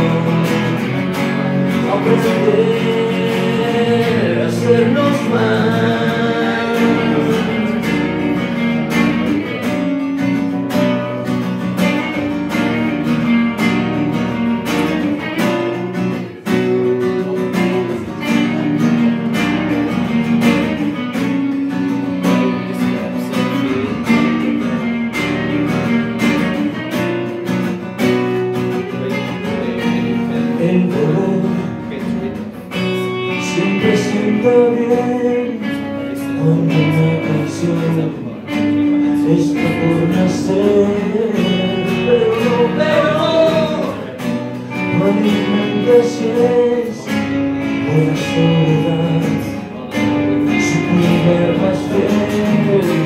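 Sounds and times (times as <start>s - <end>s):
electric guitar lead lines: 0.0s - 53.0s
person singing: 0.0s - 53.0s
strummed acoustic guitar: 0.0s - 53.0s.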